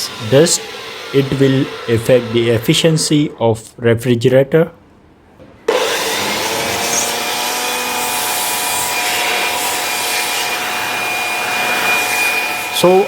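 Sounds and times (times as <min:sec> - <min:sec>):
electric fan motor whining: 0:00.0 - 0:03.4, 0:05.7 - 0:13.0.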